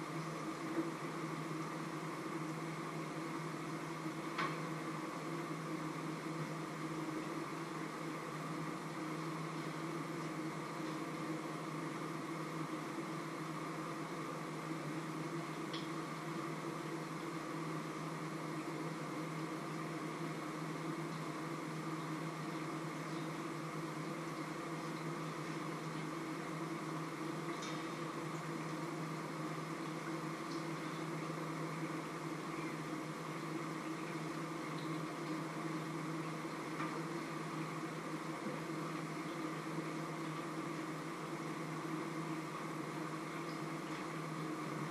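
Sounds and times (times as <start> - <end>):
mechanical hum: 0.0 - 44.9.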